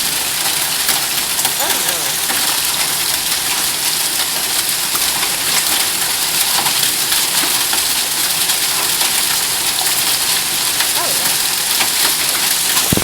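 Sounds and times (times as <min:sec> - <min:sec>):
heavy rain downpour: 0:00.0 - 0:13.0.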